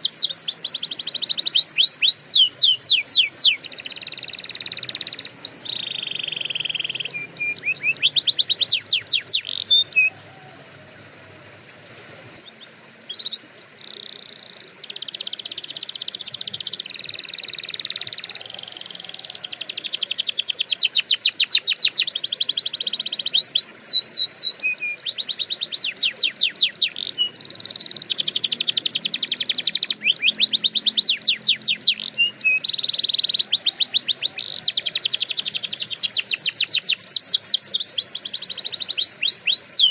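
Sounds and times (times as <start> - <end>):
canary singing trills: 0.0 - 10.6, 12.4 - 39.9.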